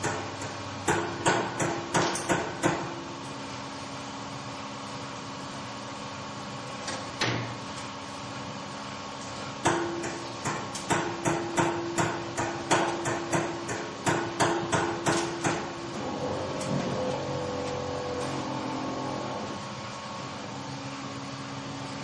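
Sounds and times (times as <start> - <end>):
milking machinery hum: 0.0 - 22.0.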